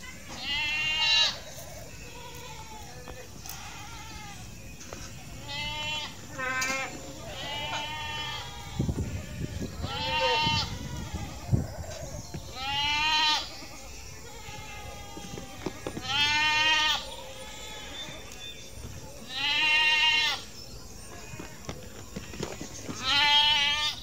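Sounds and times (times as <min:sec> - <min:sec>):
goats bleating: 0:00.2 - 0:18.4, 0:19.2 - 0:20.5, 0:22.9 - 0:24.0.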